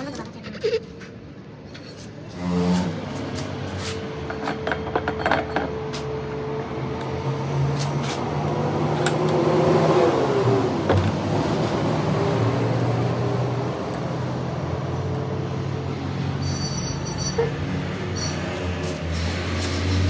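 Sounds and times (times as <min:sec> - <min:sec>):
heavy machinery humming: 0:02.3 - 0:20.0.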